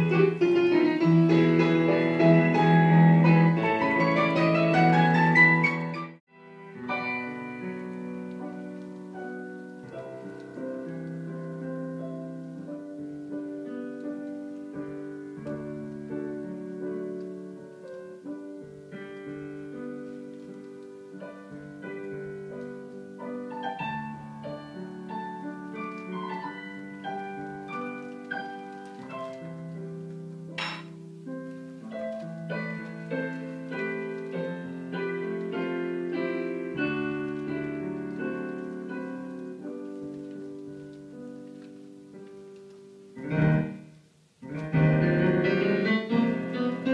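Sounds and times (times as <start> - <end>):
slow gentle piano piece: 0.0 - 46.9.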